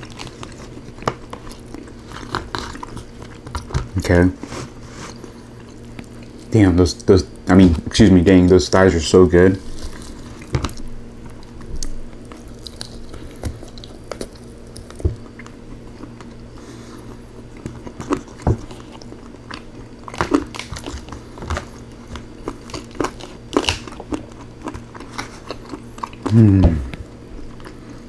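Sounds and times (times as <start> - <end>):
wet chewing and smacking: 0.0 - 8.8, 9.6 - 28.0
faint low hum: 0.0 - 28.0.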